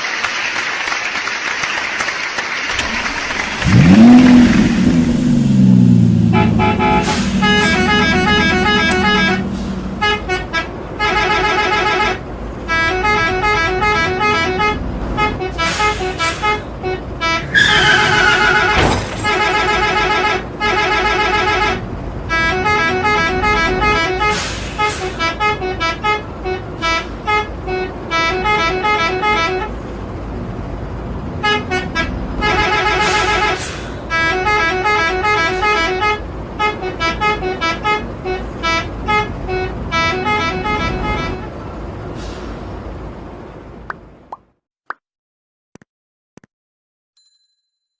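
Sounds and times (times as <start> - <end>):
multi-tone bus horn melody: 2.7 - 42.5.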